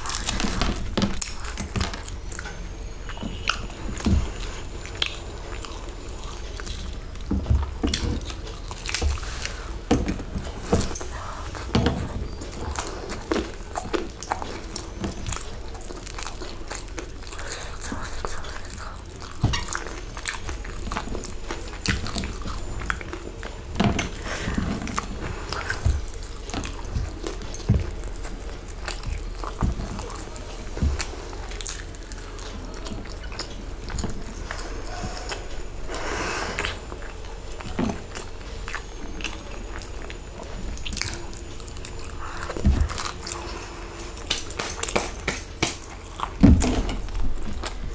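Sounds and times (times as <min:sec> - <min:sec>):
crunchy pastry chewing: 0:00.0 - 0:47.9.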